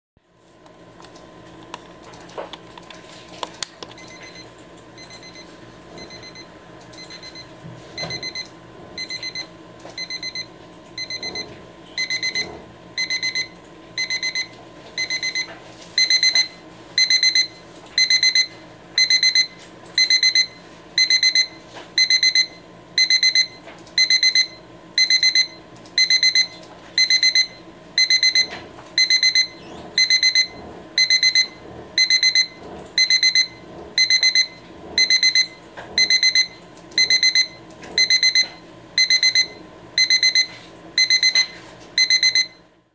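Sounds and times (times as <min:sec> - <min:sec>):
rapid high-pitched alarm beeps: 0:04.0 - 0:42.6.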